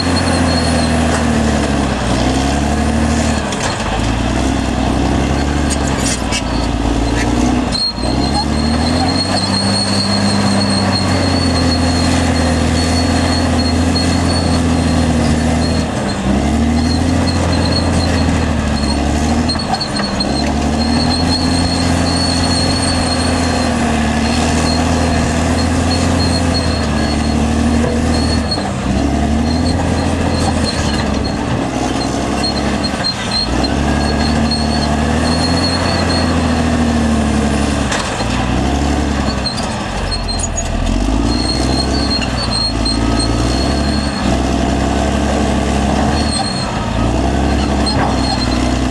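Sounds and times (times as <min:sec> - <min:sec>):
bulldozer diesel engine running hard: 0:00.0 - 0:48.9.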